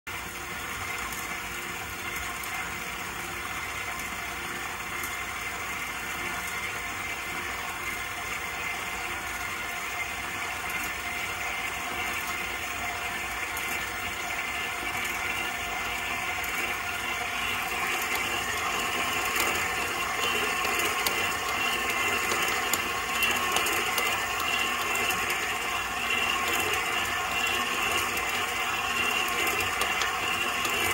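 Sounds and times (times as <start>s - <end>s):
stand mixer running: 0.1s - 30.9s.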